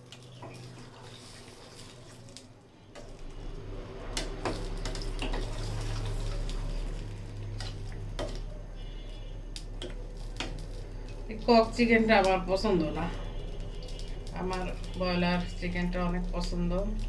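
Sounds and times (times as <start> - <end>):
water pouring into pot: 0.0 - 17.0.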